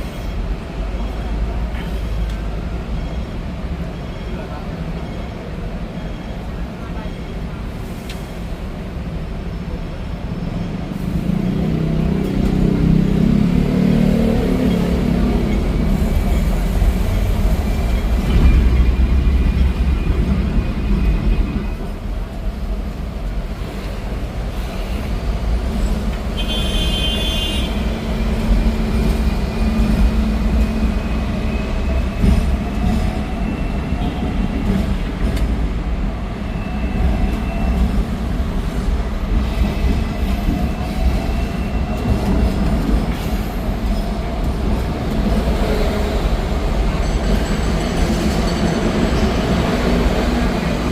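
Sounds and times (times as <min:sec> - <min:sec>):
tram rumbling on rails: 0:00.0 - 0:50.9.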